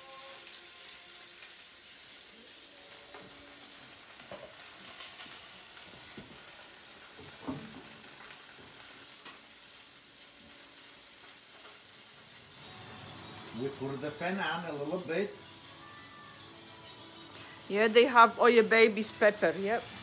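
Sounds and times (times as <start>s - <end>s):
sausage sizzling in a pan: 0.0s - 20.0s.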